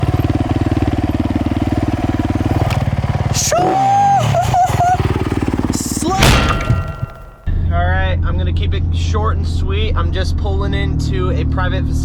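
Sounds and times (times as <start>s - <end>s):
dirt bike engine running: 0.0s - 11.2s.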